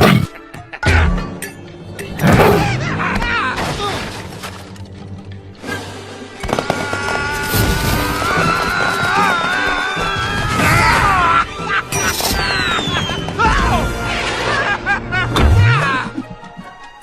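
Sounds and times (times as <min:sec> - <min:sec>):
dramatic film score music: 0:00.0 - 0:17.0.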